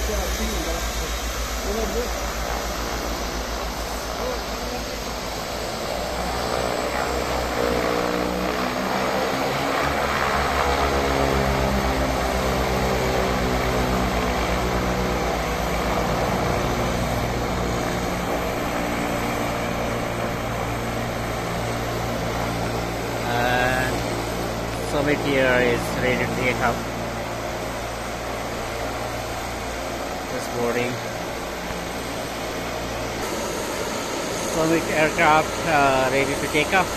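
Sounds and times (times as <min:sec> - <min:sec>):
turboprop propeller drone: 0:00.0 - 0:36.9.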